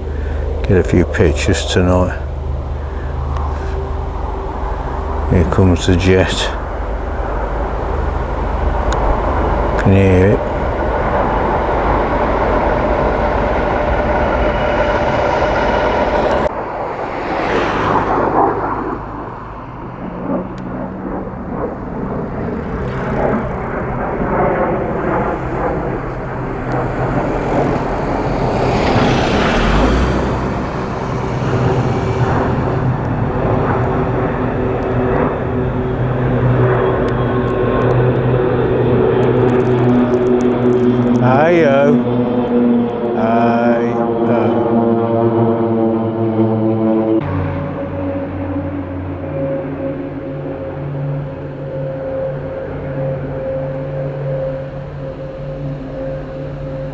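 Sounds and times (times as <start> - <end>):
jet aircraft flying past: 0.0 - 56.9.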